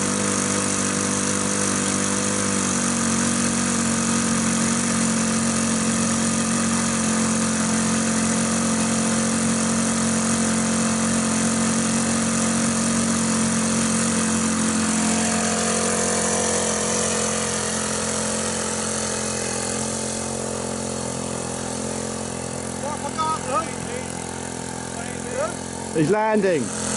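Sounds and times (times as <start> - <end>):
model aeroplane motor: 0.0 - 26.9.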